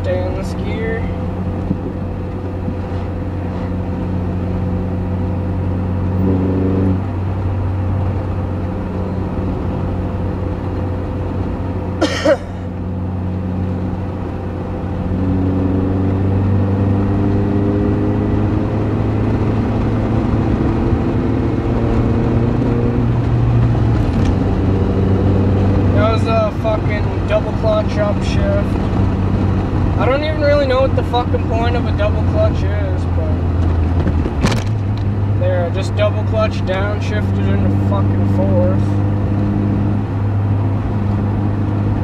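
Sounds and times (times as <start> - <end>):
car engine droning: 0.0 - 42.0.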